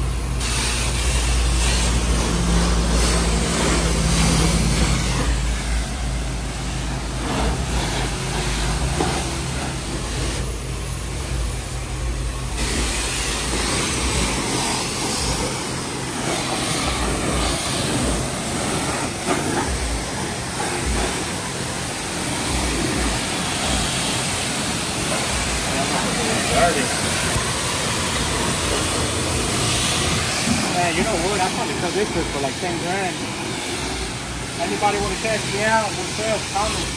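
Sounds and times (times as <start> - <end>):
low mechanical hum: 0.0 - 32.6
pressure washer spraying water: 0.0 - 36.9.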